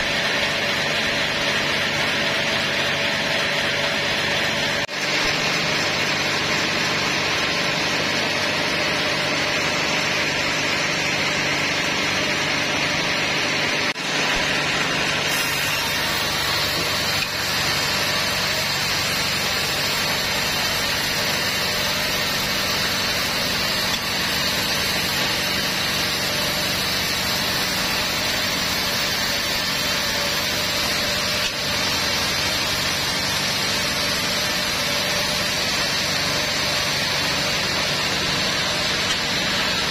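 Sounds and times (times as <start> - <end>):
saw blade hissing through wood: 0.0 - 39.9
sawmill machine hum: 0.0 - 39.9.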